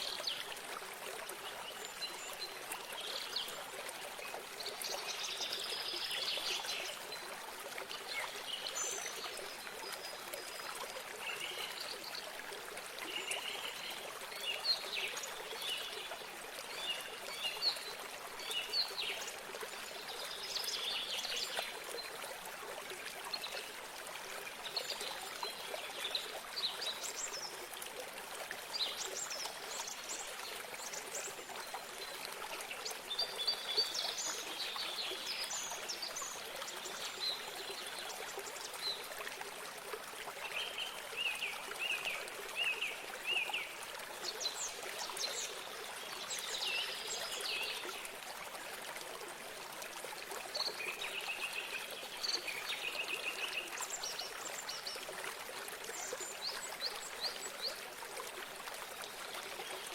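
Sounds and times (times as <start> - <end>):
water trickling in a stream: 0.0 - 59.9.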